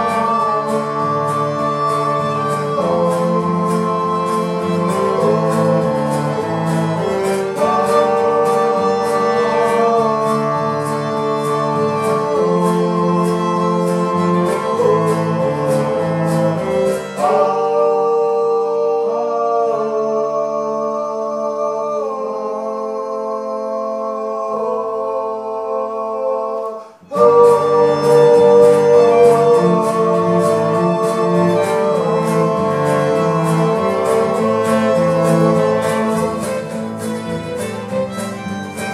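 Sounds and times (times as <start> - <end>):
fiddle: 0.0 - 22.1, 26.6 - 38.9
sung vocals: 0.0 - 37.1
strummed acoustic guitars: 0.0 - 38.9.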